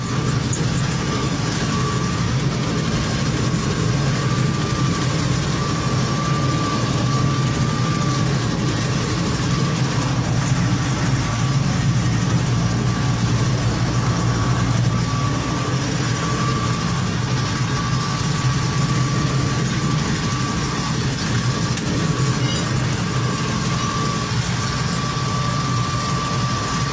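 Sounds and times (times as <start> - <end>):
heavy tractor engine running: 0.0 - 26.9
high wavering whine: 0.0 - 26.9.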